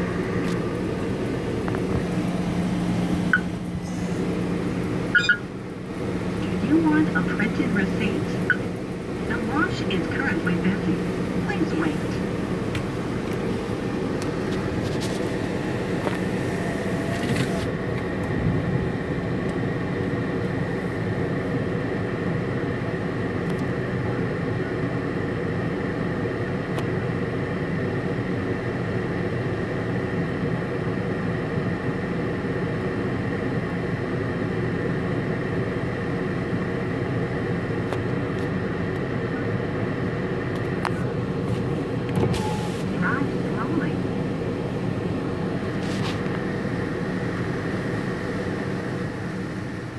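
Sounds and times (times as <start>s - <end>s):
muffled car wash machinery hum: 0.0s - 49.9s.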